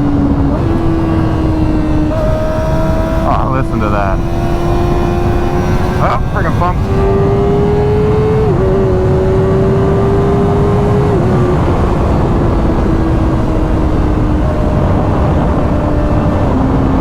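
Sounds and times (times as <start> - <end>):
motorcycle engine at high revs: 0.0 - 17.0
wind rumble on microphone: 0.0 - 17.0.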